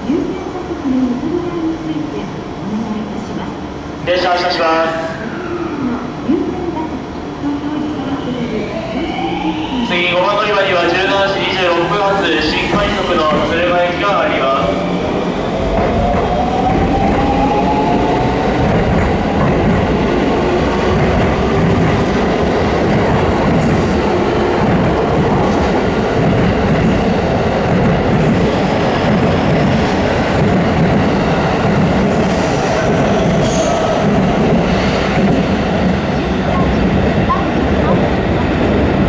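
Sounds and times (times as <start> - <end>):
train cars rumbling past: 0.0 - 39.0.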